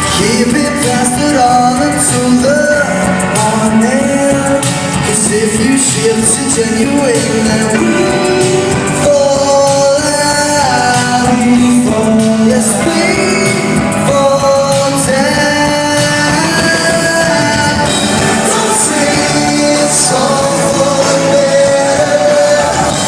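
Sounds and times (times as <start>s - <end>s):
band playing: 0.0s - 23.0s
male vocal group singing in harmony: 0.0s - 23.0s.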